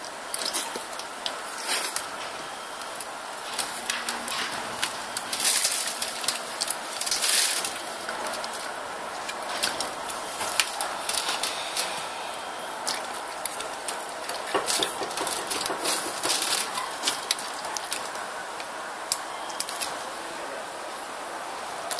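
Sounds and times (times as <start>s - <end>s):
steady background hiss: 0.0s - 21.9s.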